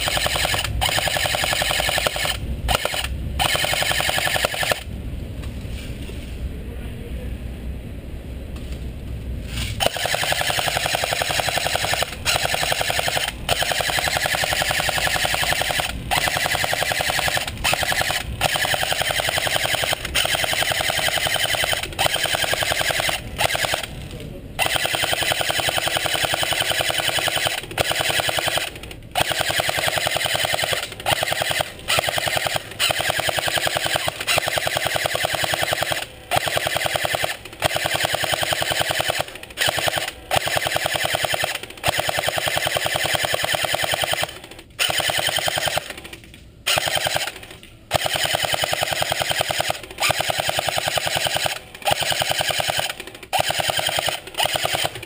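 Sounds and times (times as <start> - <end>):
electric airsoft gun full-auto bursts: 0.0 - 4.9, 9.7 - 24.0, 24.6 - 55.0.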